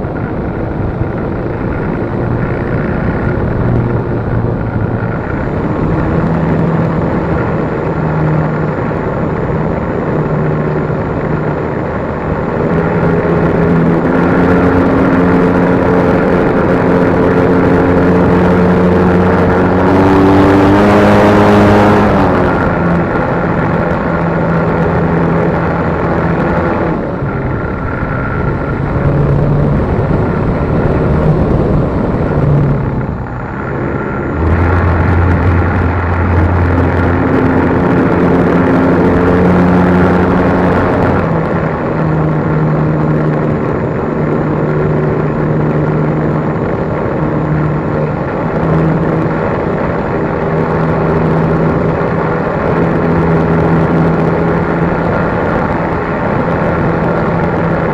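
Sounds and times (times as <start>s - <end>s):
model plane motor and propeller: 0.0s - 57.9s.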